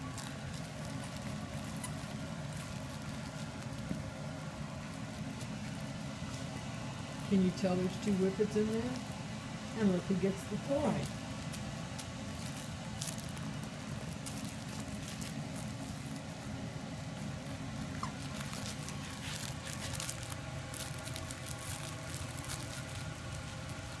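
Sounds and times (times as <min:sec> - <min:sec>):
puppies scratching and rustling: 0:00.0 - 0:24.0
steady low hum: 0:00.0 - 0:24.0.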